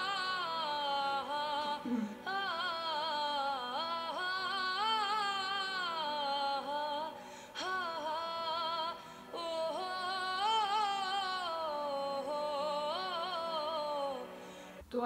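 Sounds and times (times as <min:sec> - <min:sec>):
woman singing slowly: 0:00.0 - 0:14.2.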